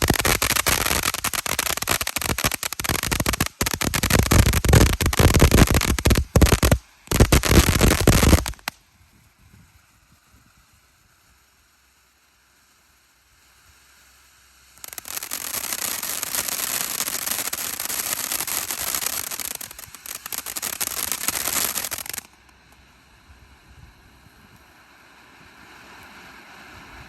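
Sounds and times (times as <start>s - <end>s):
firework fountain crackling hiss: 0.0s - 27.0s.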